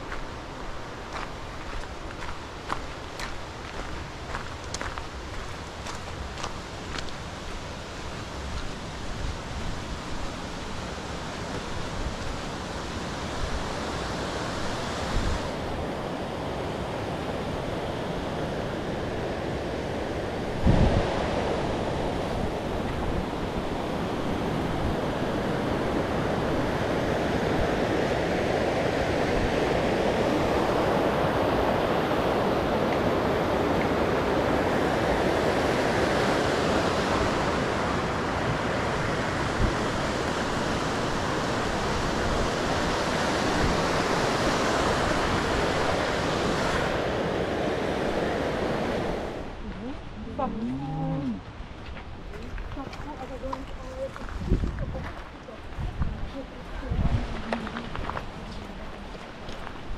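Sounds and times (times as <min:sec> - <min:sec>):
rushing stream water: 0:00.0 - 0:59.9.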